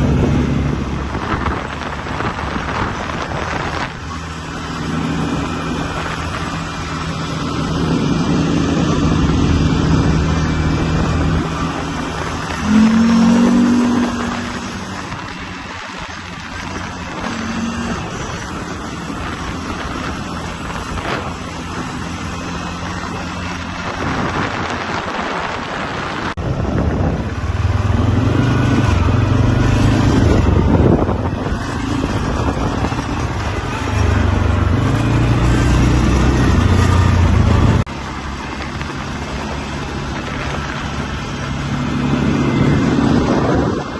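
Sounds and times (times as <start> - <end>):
quad bike engine: 0.0 - 43.9.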